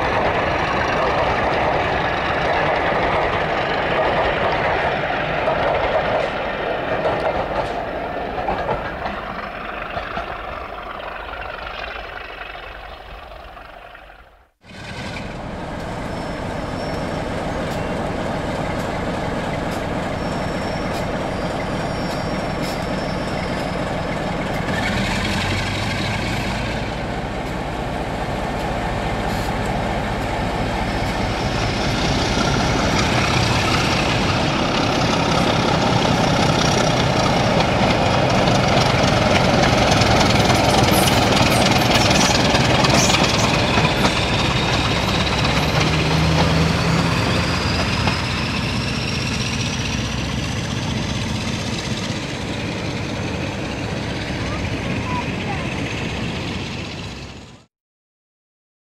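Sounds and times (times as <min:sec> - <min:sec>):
model diesel locomotive engine: 0:00.0 - 0:57.7
model train rumbling on track: 0:00.0 - 0:57.7.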